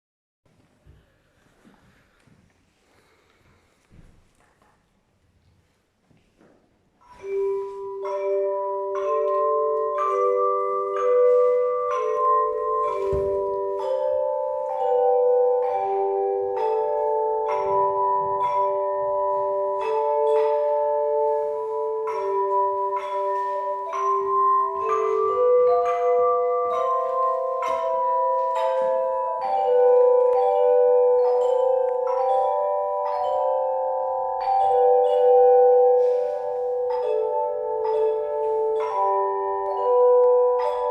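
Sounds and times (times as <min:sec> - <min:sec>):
tuned metal chimes playing hymn: 0:07.0 - 0:40.9.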